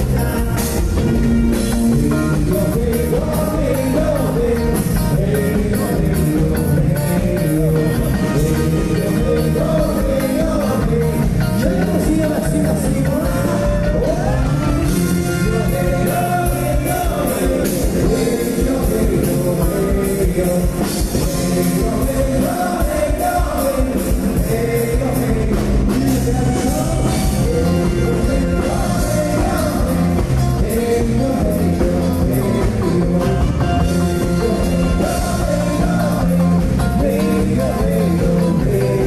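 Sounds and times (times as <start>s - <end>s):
live band playing upbeat music: 0.0s - 39.0s
person singing: 0.0s - 39.0s.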